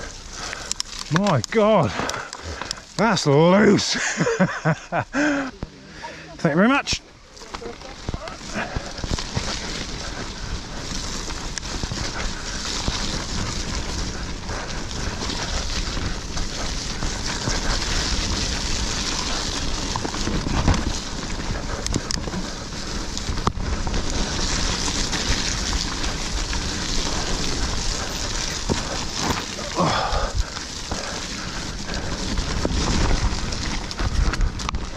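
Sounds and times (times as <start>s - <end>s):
bike rattling: 0.0s - 34.9s
tyres crunching over dirt: 0.0s - 34.9s.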